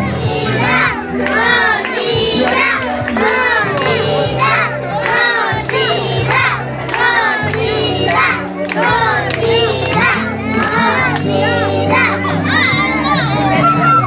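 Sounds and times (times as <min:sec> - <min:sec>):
crowd cheering and shouting: 0:00.0 - 0:14.0
music with low bass: 0:00.0 - 0:14.0
sharp claps: 0:00.5 - 0:12.2.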